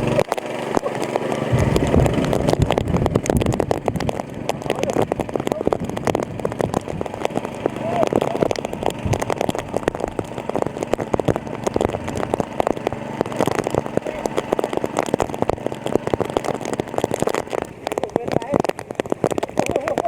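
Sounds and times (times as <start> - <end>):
water pump engine running: 0.0 - 20.0.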